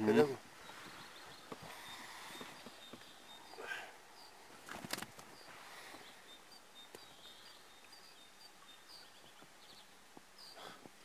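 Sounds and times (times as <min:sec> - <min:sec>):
small bird chirping: 0:00.6 - 0:10.8.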